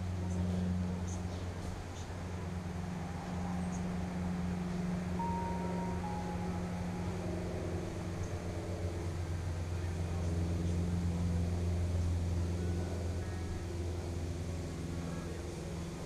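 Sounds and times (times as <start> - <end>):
distant engine droning: 0.0 - 16.0.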